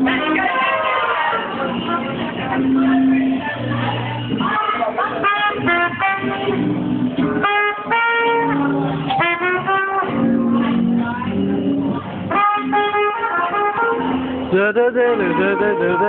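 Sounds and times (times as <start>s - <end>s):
instrumental music with held notes: 0.0s - 16.0s.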